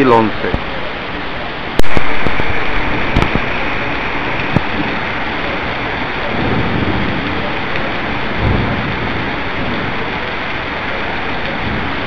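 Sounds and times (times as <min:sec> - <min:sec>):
heavy rain pouring: 0:00.0 - 0:12.0
thunder rumbling: 0:01.7 - 0:12.0.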